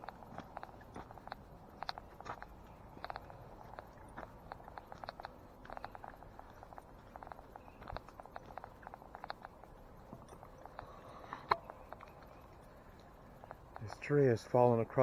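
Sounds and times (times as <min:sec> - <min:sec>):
footsteps on woodland trail: 0:00.0 - 0:15.0.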